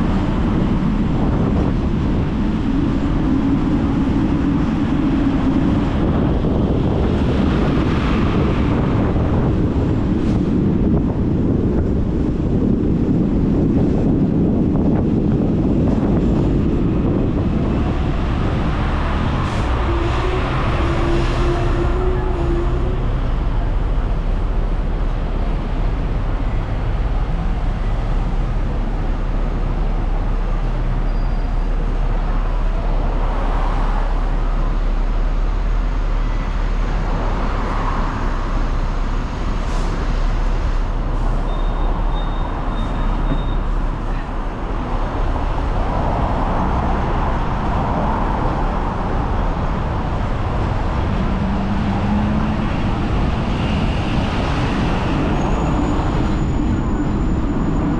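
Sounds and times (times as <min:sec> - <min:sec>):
road traffic: 0:00.0 - 0:57.9
tram rumbling in motion: 0:00.0 - 0:57.9.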